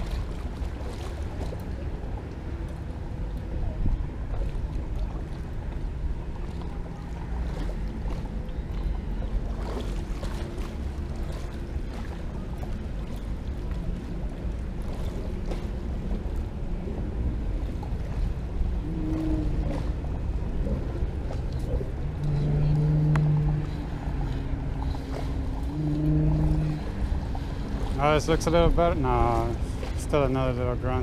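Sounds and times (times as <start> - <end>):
water lapping at boat hull: 0.0 - 31.0
wind rumbling on microphone: 0.0 - 31.0.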